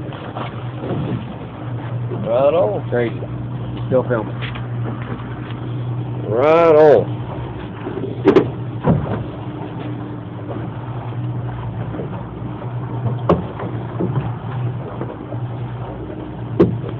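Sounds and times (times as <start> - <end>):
boat engine humming: 0.0 - 16.9
water noise: 0.0 - 16.9
wind: 0.0 - 16.9.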